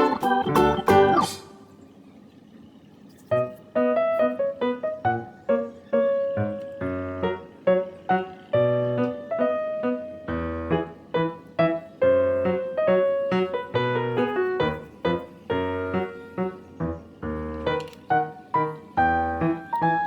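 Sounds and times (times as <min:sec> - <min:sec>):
piano melody: 0:00.0 - 0:01.7, 0:03.4 - 0:20.0.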